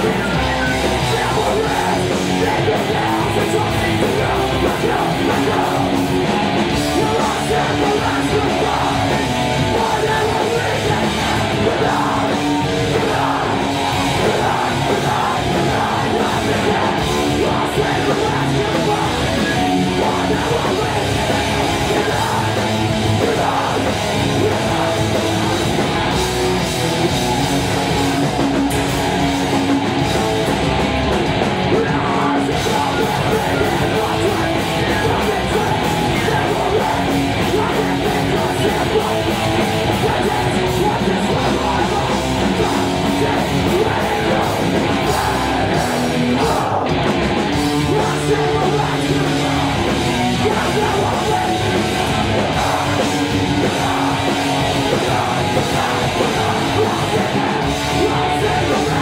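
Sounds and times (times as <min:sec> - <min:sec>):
punk band playing live: 0:00.0 - 0:59.0
shouted lead vocal: 0:00.0 - 0:59.0.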